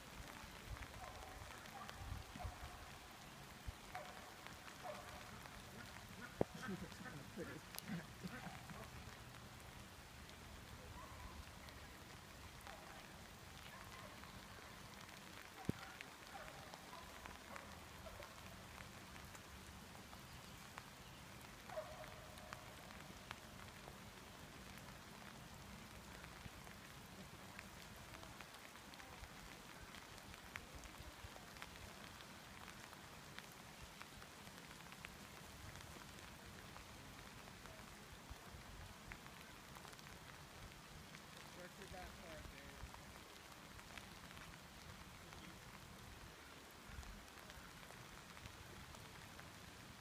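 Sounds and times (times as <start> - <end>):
light rain pattering: 0.0 - 50.0
rain drop ticks: 0.0 - 50.0.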